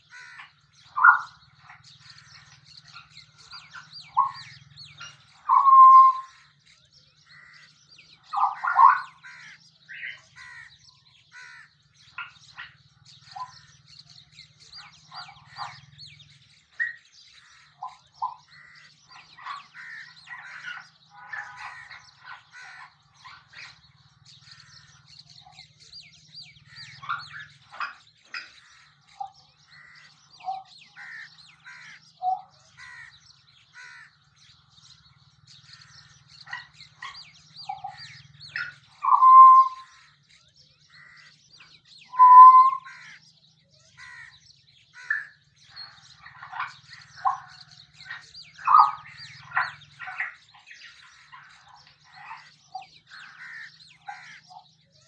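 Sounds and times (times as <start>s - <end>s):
forest birds chirping: 0.0s - 55.0s
loud long bird calls: 0.0s - 55.0s.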